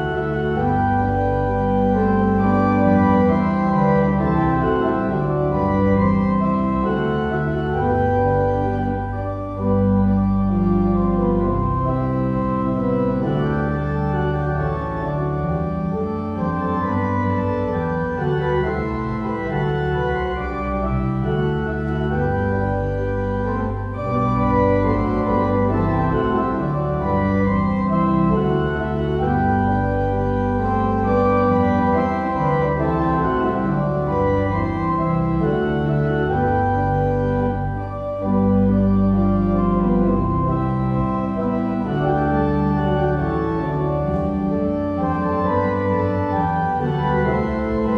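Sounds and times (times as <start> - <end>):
organ music: 0.0 - 47.9.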